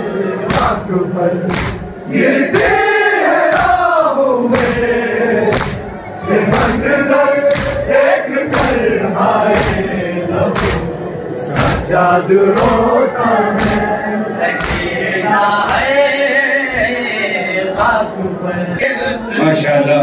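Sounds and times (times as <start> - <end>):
men chanting in unison: 0.0 - 19.8.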